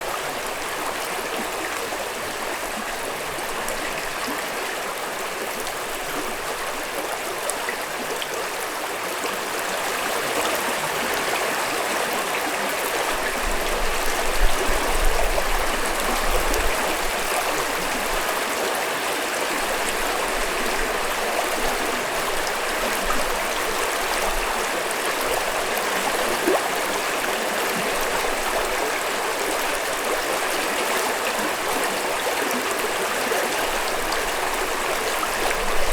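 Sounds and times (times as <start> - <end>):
stream water rushing: 0.0 - 35.9.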